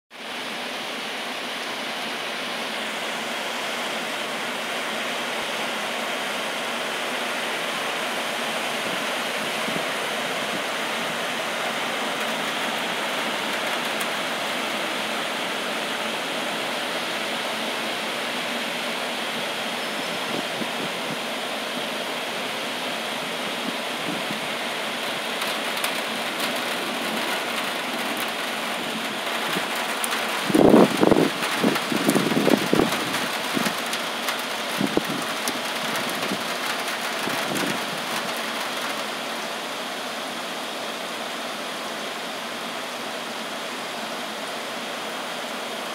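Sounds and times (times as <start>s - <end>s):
heavy rain pouring: 0.1s - 45.9s.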